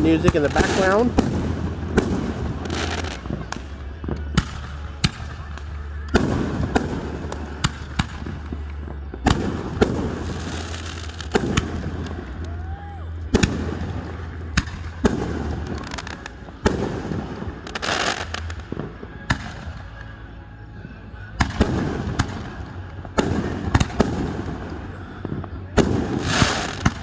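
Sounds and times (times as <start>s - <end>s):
fireworks bangs with echo: 0.0s - 20.2s, 20.8s - 27.0s
fireworks crackling: 0.0s - 27.0s.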